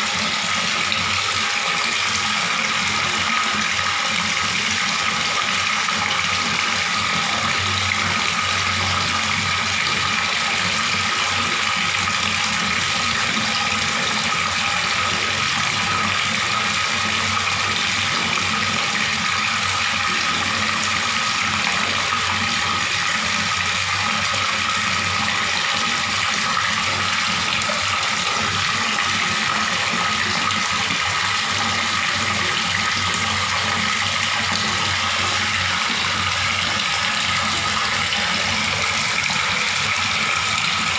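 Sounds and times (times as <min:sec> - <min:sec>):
water running from tap: 0:00.0 - 0:40.9.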